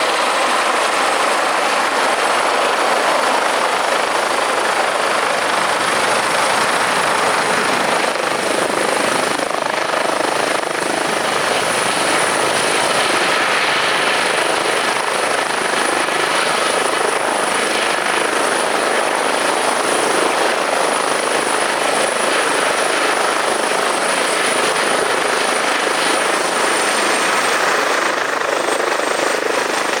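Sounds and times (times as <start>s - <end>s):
helicopter rotor and engine noise: 0.0s - 30.0s.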